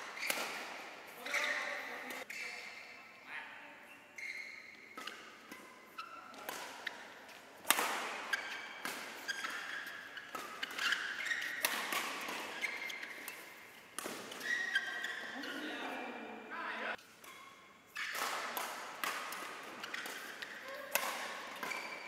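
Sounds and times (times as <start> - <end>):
racket hitting shuttlecock: 0.0 - 2.3, 4.5 - 15.6, 17.0 - 22.0
shoes squeaking on court: 0.0 - 3.1, 3.8 - 16.0, 16.9 - 22.0.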